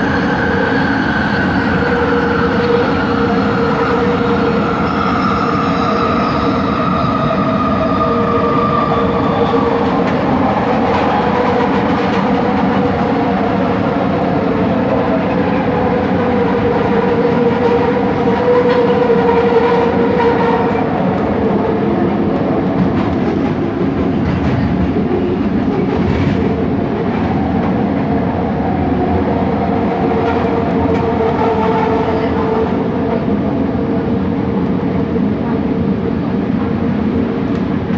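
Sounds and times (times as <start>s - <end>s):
wheel and track rumble: 0.0s - 37.9s.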